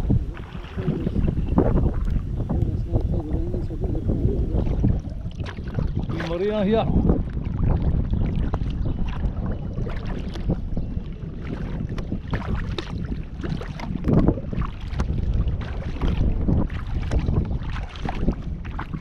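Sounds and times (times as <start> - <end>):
paddle splashes and drips: 0.0 - 19.0
wind buffeting microphone: 0.0 - 19.0.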